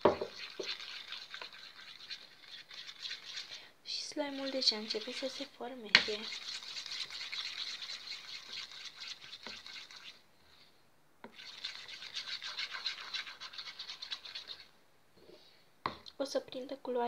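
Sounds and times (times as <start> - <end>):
stick scraping around a bowl: 0.0 - 10.6, 11.2 - 14.7.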